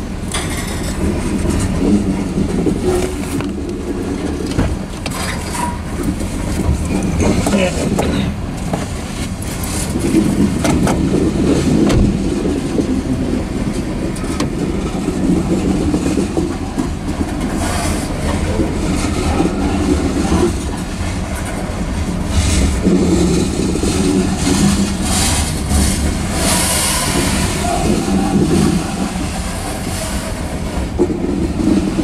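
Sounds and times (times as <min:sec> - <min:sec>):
steel wheels rumbling on rail: 0:00.0 - 0:32.0
wheels clacking over rail joints: 0:00.0 - 0:32.0.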